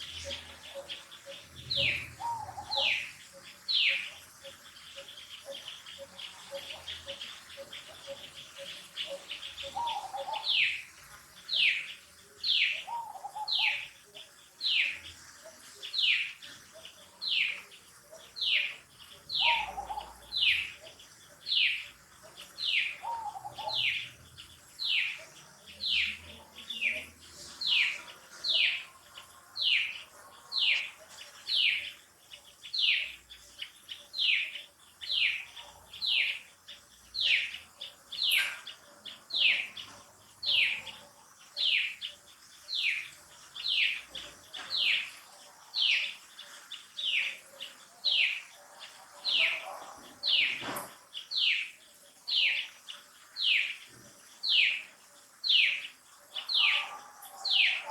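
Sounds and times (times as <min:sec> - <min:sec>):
lower bird calls: 0:00.0 - 0:10.9, 0:14.7 - 0:57.9.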